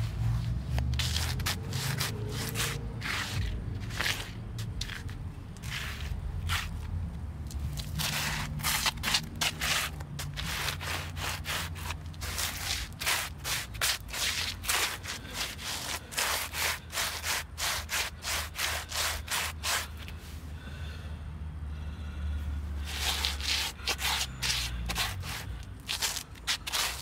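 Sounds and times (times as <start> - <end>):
shoes scuffing on asphalt: 0.0 - 20.1, 22.8 - 27.0.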